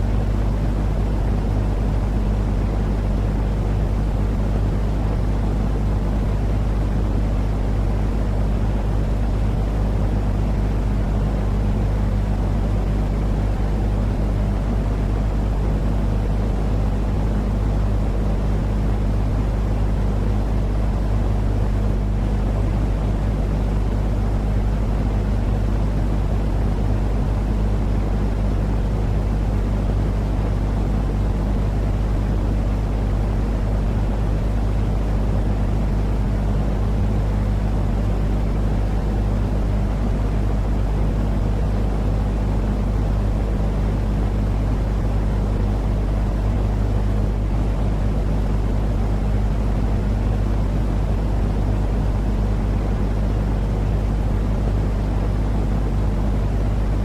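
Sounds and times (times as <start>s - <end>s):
constant low hum: 0.0s - 57.0s
steady low rumbling noise: 0.0s - 57.0s.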